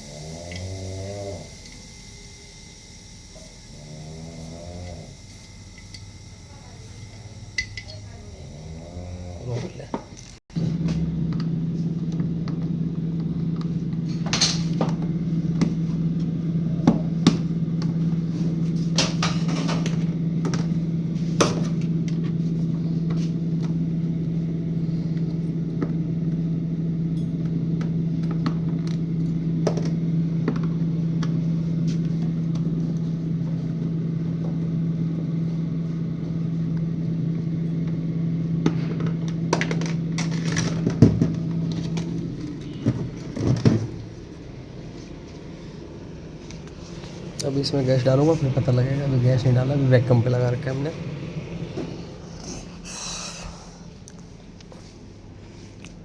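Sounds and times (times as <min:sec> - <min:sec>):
vacuum pump humming: 0:00.0 - 0:56.0.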